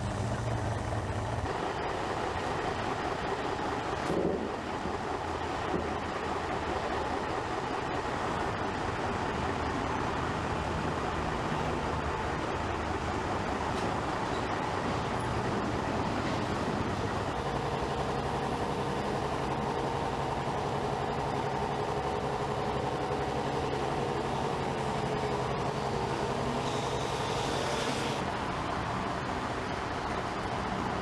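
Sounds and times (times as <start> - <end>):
diesel engine running under load: 0.0 - 31.0
traffic noise: 0.0 - 31.0.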